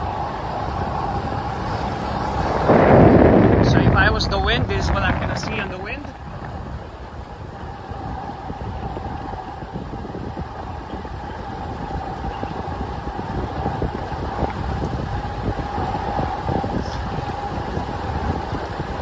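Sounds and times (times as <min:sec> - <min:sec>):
motor vehicle whine: 0:00.0 - 0:19.0
wind buffeting microphone: 0:00.0 - 0:19.0.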